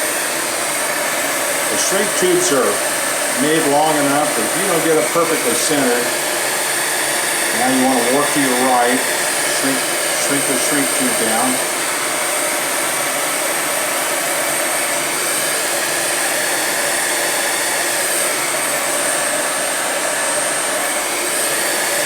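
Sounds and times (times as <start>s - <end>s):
heat gun blowing air: 0.0s - 22.0s.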